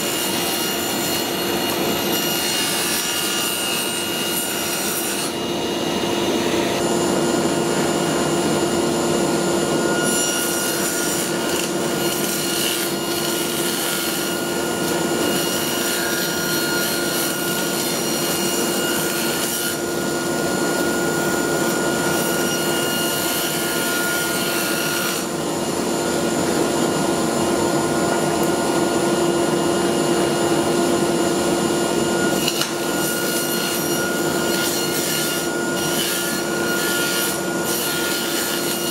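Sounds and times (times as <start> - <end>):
table saw cutting wood: 0.0 - 38.9.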